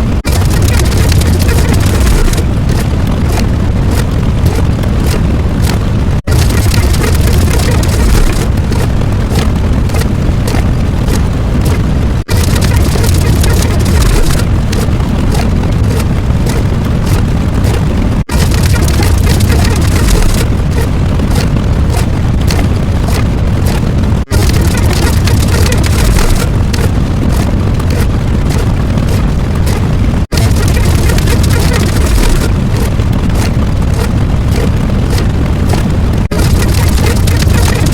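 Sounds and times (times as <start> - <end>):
loud dense rumbling: 0.0 - 37.9.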